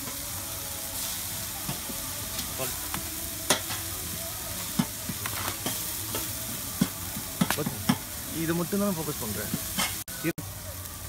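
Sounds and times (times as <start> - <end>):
egg sizzling in oil: 0.0 - 11.0.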